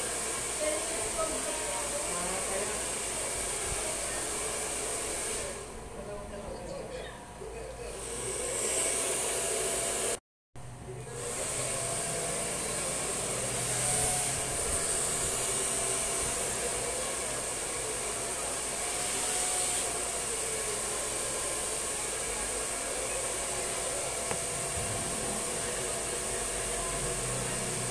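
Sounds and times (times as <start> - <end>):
hair dryer blowing: 0.0 - 5.6, 8.1 - 10.2, 11.1 - 27.9.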